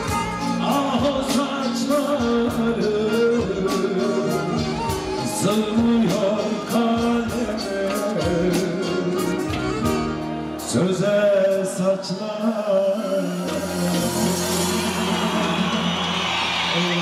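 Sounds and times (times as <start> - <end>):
man singing into microphone: 0.0 - 16.0
band playing steady beat: 0.0 - 17.0.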